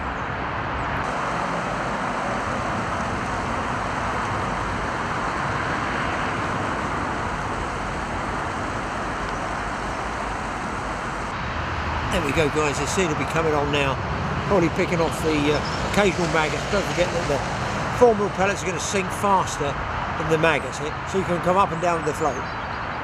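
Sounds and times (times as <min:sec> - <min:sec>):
distant road traffic: 0:00.0 - 0:23.0.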